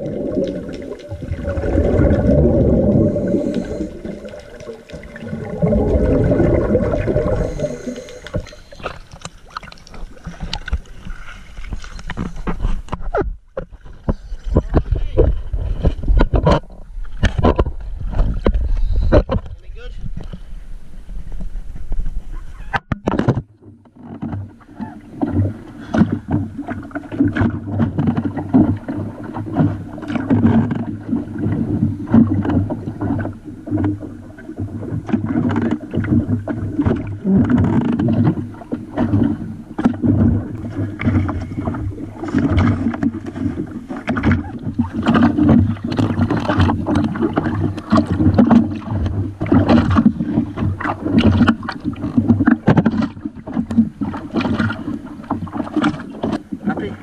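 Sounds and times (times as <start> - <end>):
water slapping boat hull: 0.0 - 57.0.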